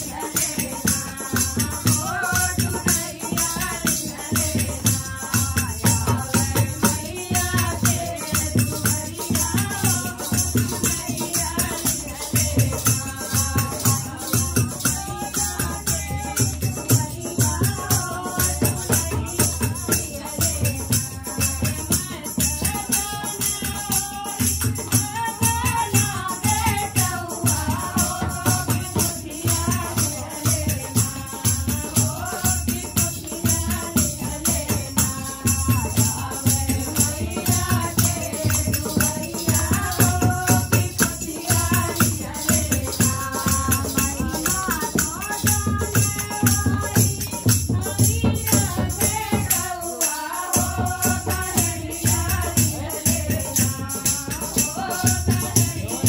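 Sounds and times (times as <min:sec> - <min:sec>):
drum beat: 0:00.0 - 0:49.8, 0:50.5 - 0:56.0
group singing devotional song: 0:00.0 - 0:56.0
jingling percussion: 0:00.0 - 0:56.0.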